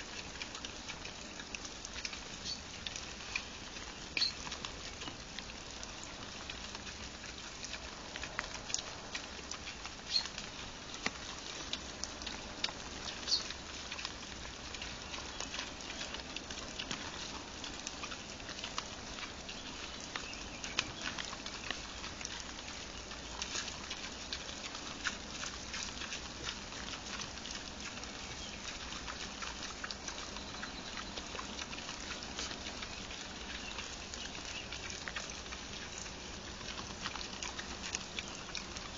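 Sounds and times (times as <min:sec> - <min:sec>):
background hiss: 0:00.0 - 0:38.9
boar crunching maize: 0:00.0 - 0:38.9.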